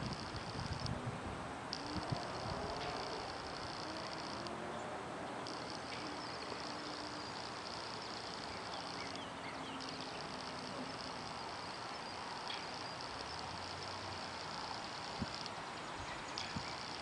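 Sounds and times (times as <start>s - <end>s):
insect trilling: 0.0s - 0.9s, 1.7s - 4.6s, 5.4s - 15.6s, 16.4s - 17.0s
soft outdoor background hiss: 0.0s - 17.0s.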